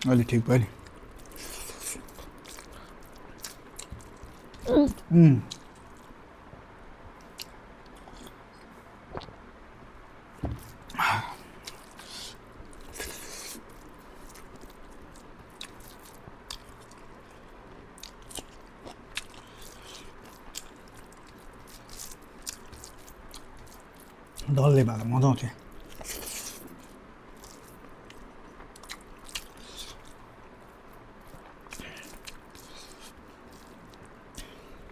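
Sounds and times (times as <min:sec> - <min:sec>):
person chewing food: 0:00.8 - 0:04.6, 0:07.2 - 0:09.4, 0:10.5 - 0:24.5, 0:25.7 - 0:34.9.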